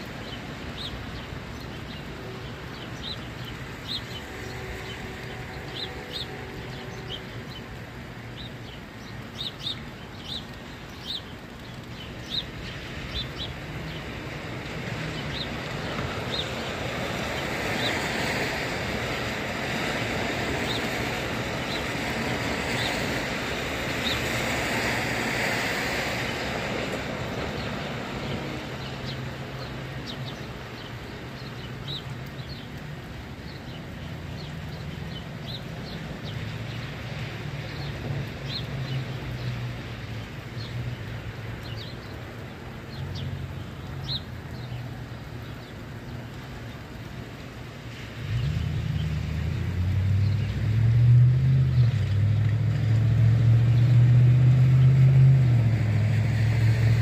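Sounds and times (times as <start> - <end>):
small birds chirping: 0.0 - 50.7
tyres hissing on wet road: 0.0 - 57.0.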